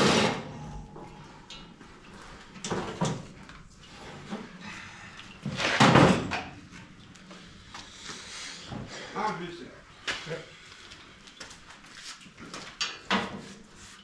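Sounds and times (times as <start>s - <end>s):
objects clunking and scraping: 0.0s - 9.4s, 10.0s - 14.0s.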